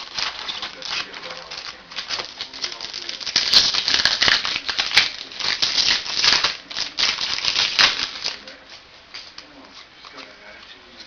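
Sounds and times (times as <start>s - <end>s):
wrapper crinkling: 0.0s - 10.3s
cards clicking and rustling: 0.0s - 10.7s.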